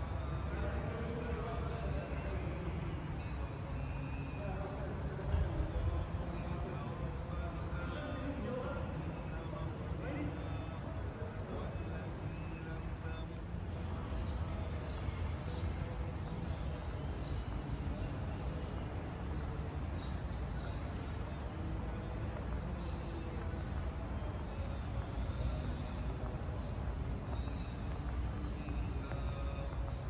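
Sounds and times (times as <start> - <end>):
small birds chirping: 1.3 - 30.0.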